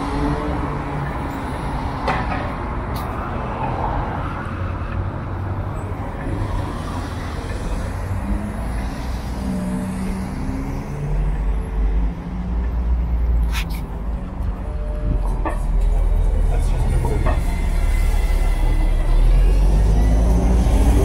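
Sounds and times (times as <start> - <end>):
cars driving past: 0.0 - 21.0.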